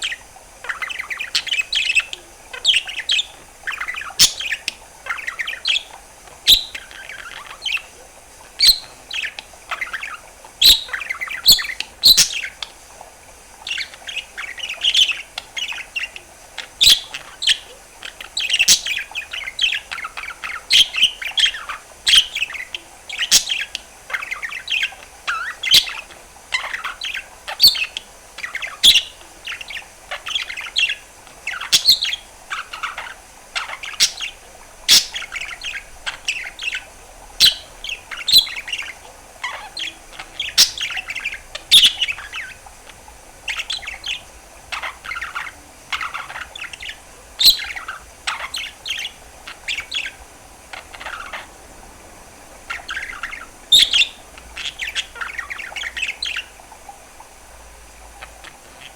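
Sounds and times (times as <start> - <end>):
budgerigar warbling: 0.0 - 8.0, 8.6 - 12.6, 13.6 - 42.7, 43.5 - 51.6, 52.7 - 56.9.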